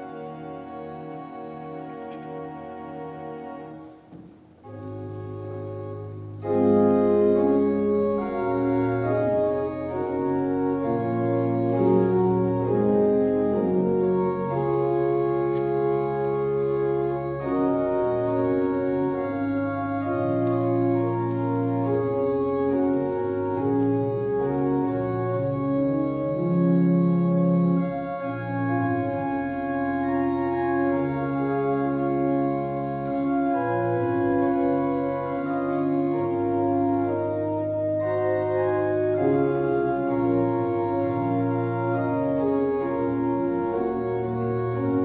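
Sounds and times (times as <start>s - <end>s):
church organ chords: 0.0s - 45.0s.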